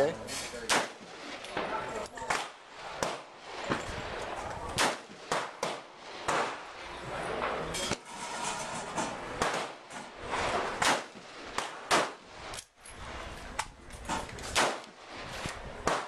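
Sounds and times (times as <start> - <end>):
gunshots: 0.5 - 8.0, 9.1 - 12.6, 14.1 - 16.0.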